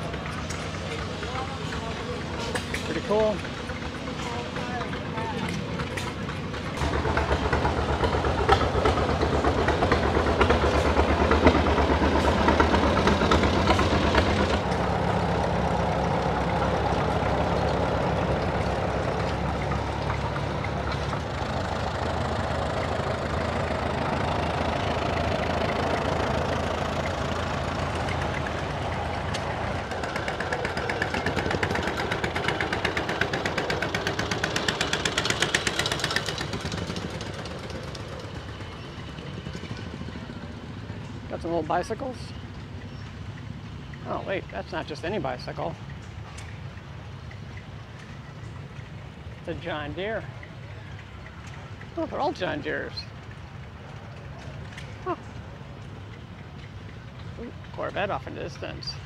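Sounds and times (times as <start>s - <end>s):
quicker engine beat: 0.0s - 58.7s
tractor engine running: 0.0s - 59.0s.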